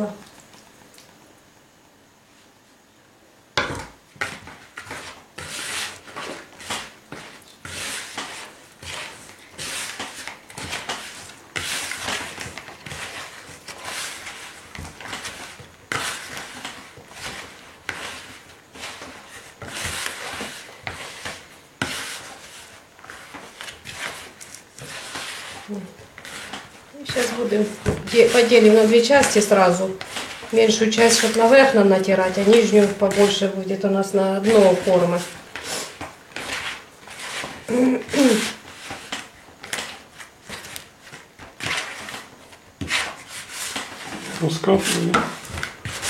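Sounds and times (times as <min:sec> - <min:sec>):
hands kneading crumbly dough: 0:04.1 - 0:46.0.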